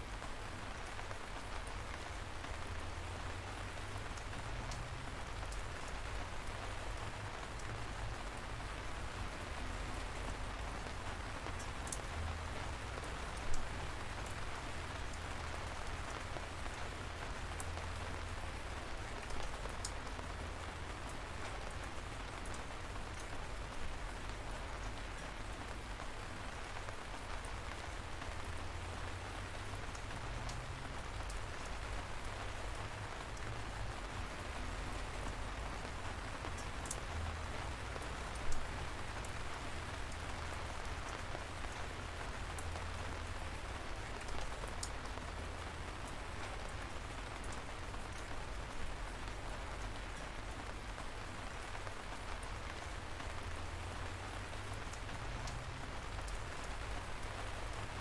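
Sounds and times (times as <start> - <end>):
light rain hissing: 0.0 - 58.0.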